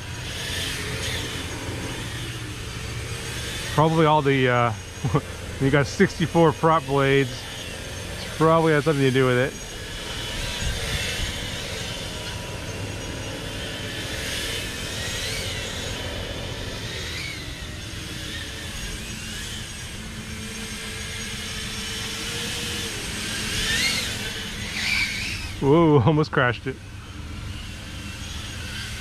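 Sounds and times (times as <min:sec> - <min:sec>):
lawnmower engines droning: 0:00.0 - 0:29.0
quadcopter propeller whine: 0:00.0 - 0:29.0.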